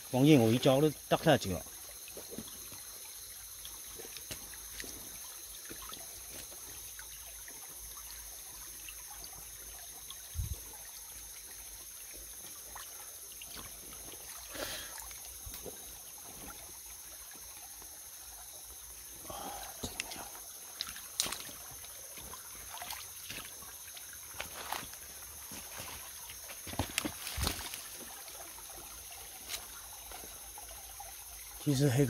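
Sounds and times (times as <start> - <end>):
stream water trickling: 0.0 - 32.0
small splashes from wading: 1.6 - 31.6.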